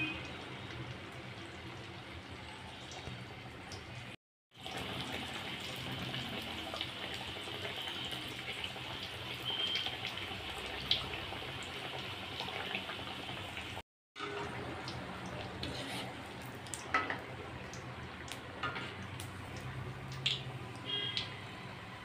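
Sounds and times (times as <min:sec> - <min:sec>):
batter deep-frying in oil: 0:00.0 - 0:22.0.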